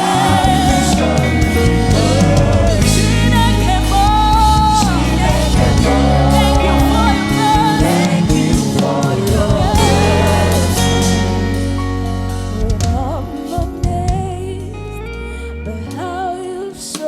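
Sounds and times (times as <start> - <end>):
backing voices: 0.0 - 14.8
sustained bass: 0.0 - 16.6
keyboard chords: 0.0 - 17.0
person singing gospel: 0.0 - 17.0.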